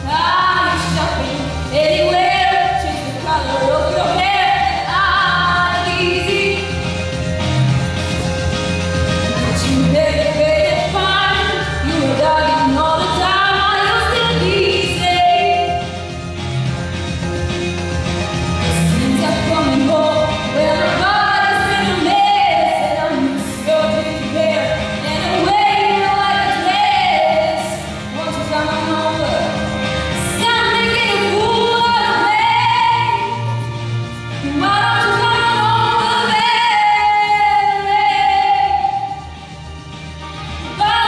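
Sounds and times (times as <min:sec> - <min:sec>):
woman singing into microphone: 0:00.0 - 0:07.0, 0:09.3 - 0:16.0, 0:18.7 - 0:39.4, 0:40.6 - 0:41.0
instrumental accompaniment: 0:00.0 - 0:41.0.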